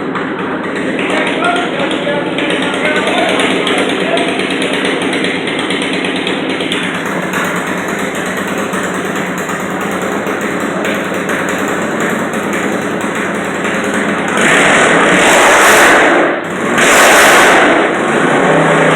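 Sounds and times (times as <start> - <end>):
tractor engine running hard: 0.0 - 18.9.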